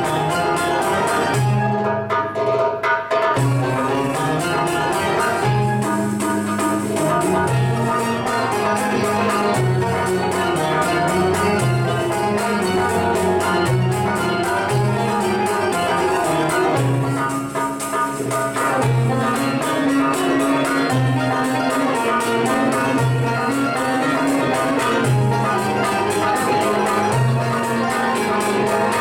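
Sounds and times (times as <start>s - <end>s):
banjos and mandolin playing: 0.0s - 29.0s
goblet drums: 0.0s - 29.0s.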